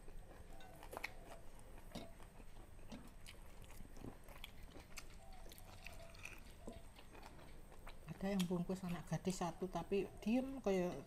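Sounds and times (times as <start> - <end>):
chewing and mouth smacks: 0.0 - 9.1.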